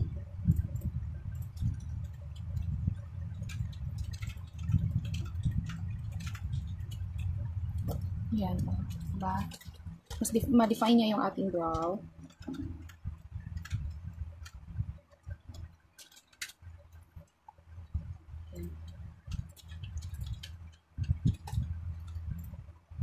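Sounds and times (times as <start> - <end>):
low rumbling handling noise: 0.0 - 15.9, 16.5 - 23.0
small clicks: 0.4 - 10.9, 11.7 - 22.6.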